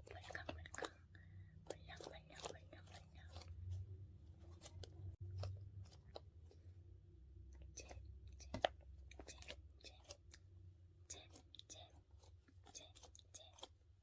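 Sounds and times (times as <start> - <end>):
squishy toy squelching and clicking: 0.0 - 14.0.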